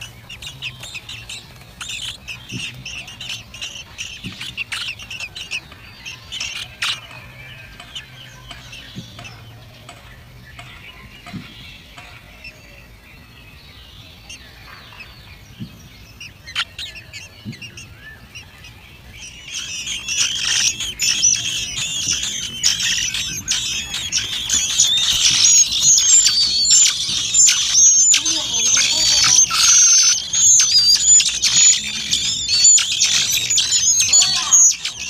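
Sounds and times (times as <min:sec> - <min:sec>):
nestlings begging calls: 0:00.0 - 0:35.0.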